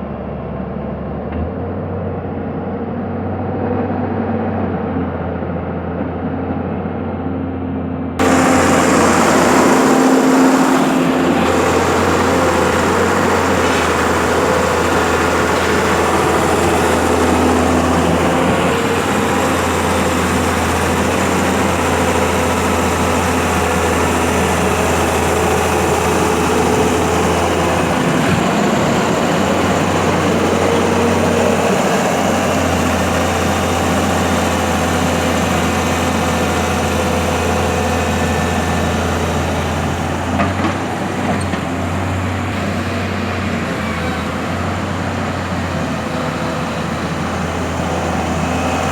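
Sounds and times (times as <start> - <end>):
crane engine running: 0.0 - 48.9.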